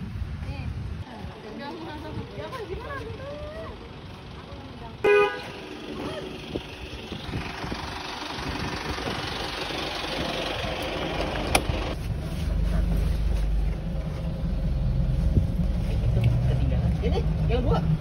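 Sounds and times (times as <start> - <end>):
traffic noise: 0.0 - 18.0
engine idling rumble: 1.2 - 18.0.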